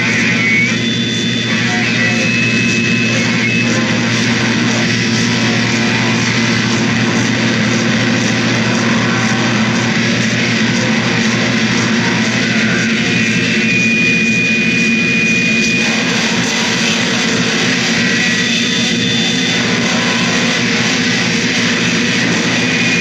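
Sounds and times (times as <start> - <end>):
distorted noise music: 0.0 - 23.0
thin high held tone: 0.0 - 23.0.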